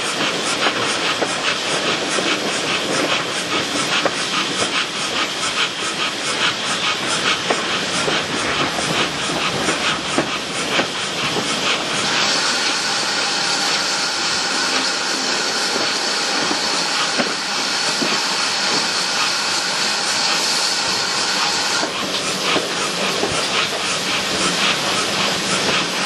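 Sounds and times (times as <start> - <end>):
steam hiss: 0.0 - 26.0
steam locomotive chuffing: 0.0 - 26.0.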